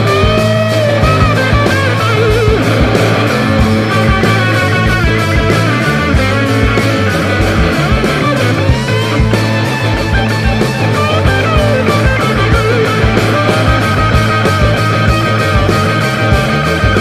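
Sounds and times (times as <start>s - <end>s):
rock guitar: 0.0s - 17.0s
steady drum beat: 0.0s - 17.0s.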